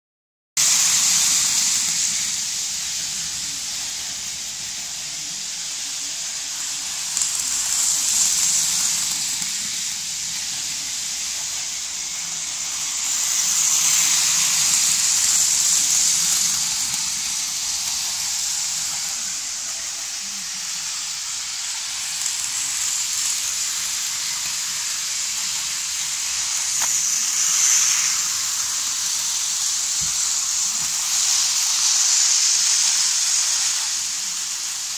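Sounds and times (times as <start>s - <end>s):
model train whirring on track: 0.6s - 34.9s.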